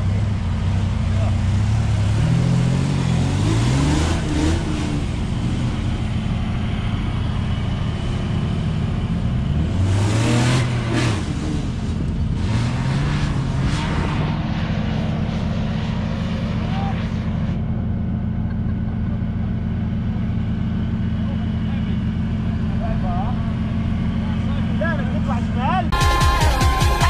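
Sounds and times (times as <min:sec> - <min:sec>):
suv engine revving: 0:00.0 - 0:27.0.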